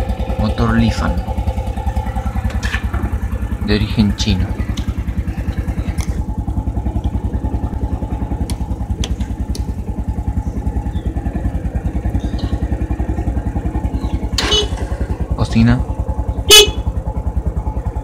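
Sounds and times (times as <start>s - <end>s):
engine idling with rapid putter: 0.0s - 18.0s.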